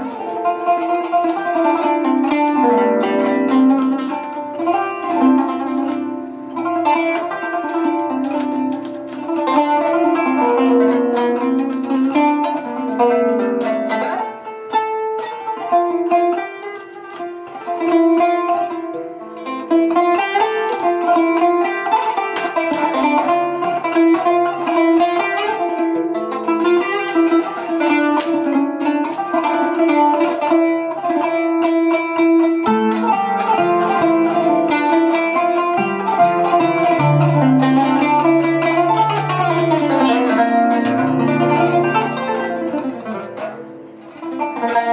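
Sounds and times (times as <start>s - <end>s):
plucked zither solo: 0.0s - 44.9s.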